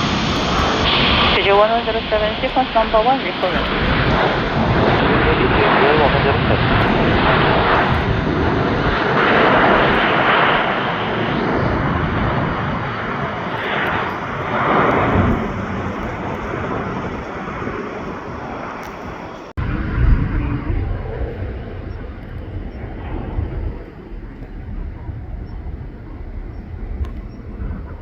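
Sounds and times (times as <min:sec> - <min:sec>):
loud low rumble: 0:00.0 - 0:18.6, 0:19.4 - 0:28.0
jet airliner passing: 0:00.0 - 0:28.0.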